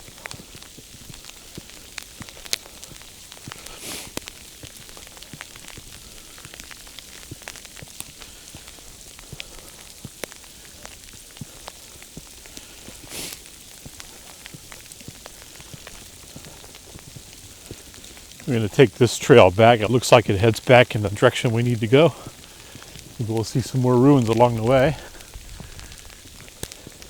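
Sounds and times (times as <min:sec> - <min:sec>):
sleet ticking on clothing and snow: 0:00.0 - 0:27.0
steady hiss: 0:00.0 - 0:27.0.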